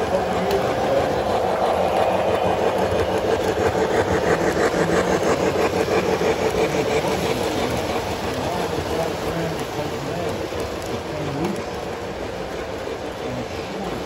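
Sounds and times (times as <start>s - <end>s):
wheels clicking over track: 0.0s - 14.0s.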